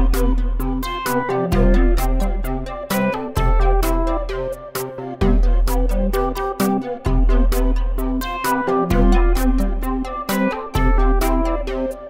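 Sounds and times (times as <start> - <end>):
electronic music with synth and bass: 0.0 - 12.0.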